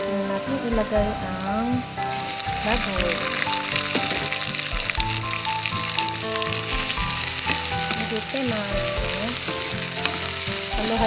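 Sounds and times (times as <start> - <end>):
pork sizzling in a frying pan: 0.0 - 11.0
wooden spatula turning meat: 0.0 - 11.0.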